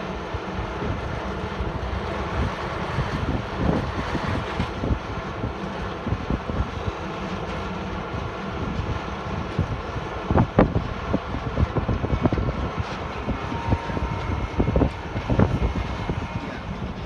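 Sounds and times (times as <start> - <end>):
heavy diesel machinery running: 0.0 - 17.0
wind buffeting microphone: 0.0 - 17.0.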